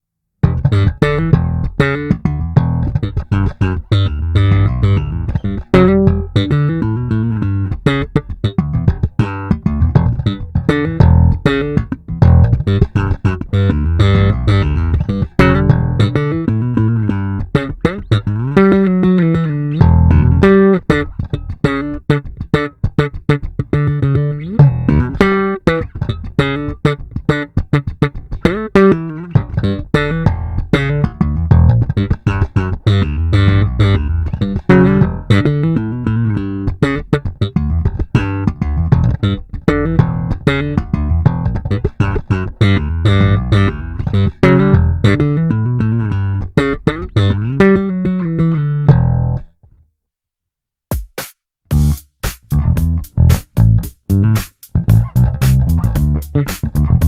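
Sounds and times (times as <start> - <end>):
electric bass plucked notes: 0.4 - 49.6, 51.7 - 57.0.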